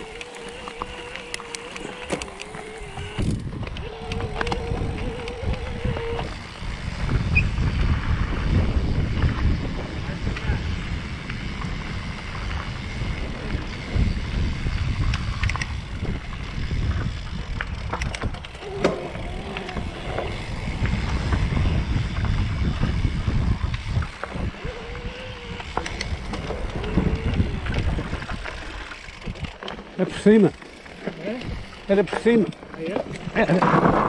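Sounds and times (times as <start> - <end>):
bike clicks and rattles: 0.0 - 34.0
wind rumbling on microphone: 0.0 - 34.0.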